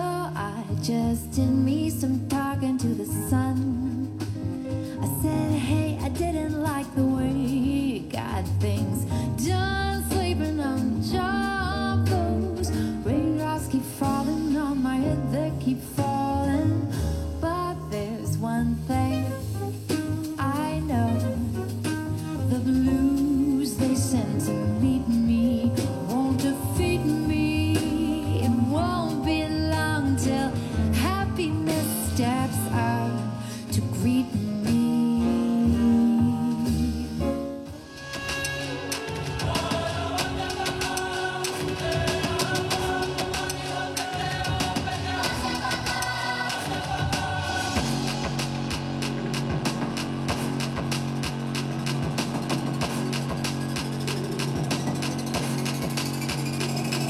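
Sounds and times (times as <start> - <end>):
guitar and bass: 0.0 - 57.0.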